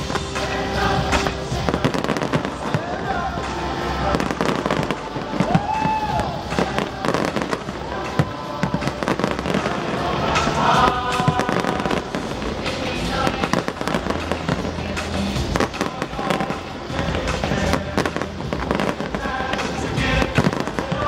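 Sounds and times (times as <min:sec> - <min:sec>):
fireworks bangs and crackles: 0:00.0 - 0:21.0
music playing: 0:00.0 - 0:21.0.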